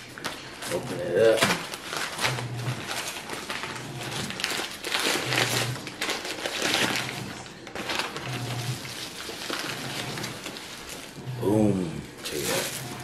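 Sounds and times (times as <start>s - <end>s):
paper crinkling and rustling: 0.0s - 11.3s, 12.1s - 13.0s.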